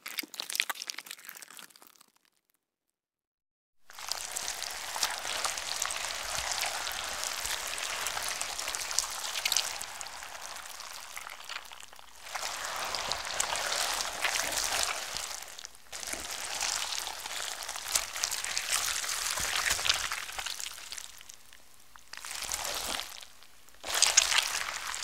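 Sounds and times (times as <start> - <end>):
wet squishy material squeezed: 0.0 - 2.4, 3.9 - 21.4, 22.1 - 25.0.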